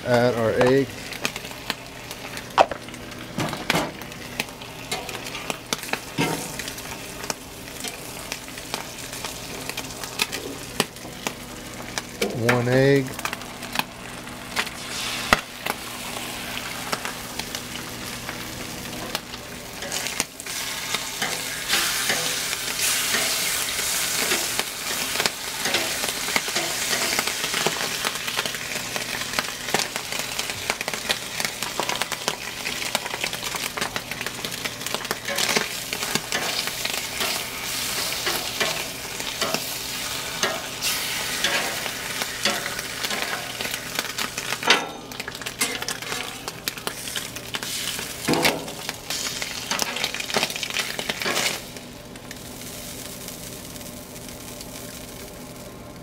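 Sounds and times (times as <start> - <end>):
food sizzling on a griddle: 0.0 - 56.0.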